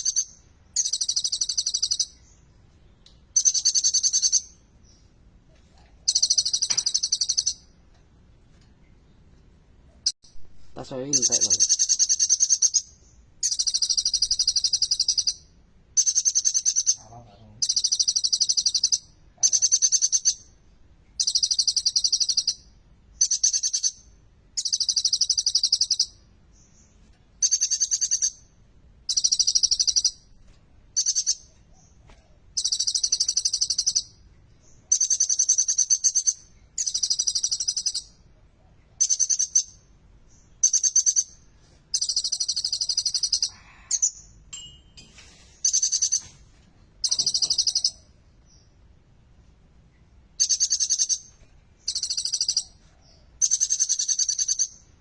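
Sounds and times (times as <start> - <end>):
sunbird trilling song: 0.0 - 5.1, 6.0 - 7.7, 10.0 - 20.6, 21.2 - 28.5, 29.1 - 30.3, 31.0 - 38.3, 39.0 - 46.4, 47.0 - 48.8, 50.4 - 54.9.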